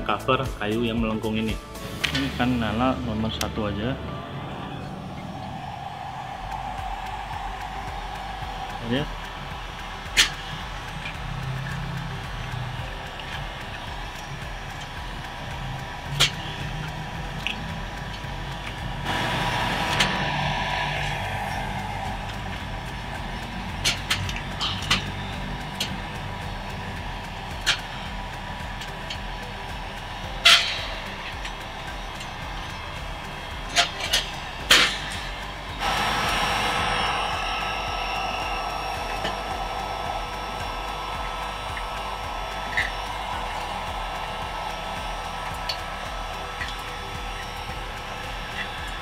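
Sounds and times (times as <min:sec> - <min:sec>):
heat gun fan humming: 0:05.5 - 0:49.0.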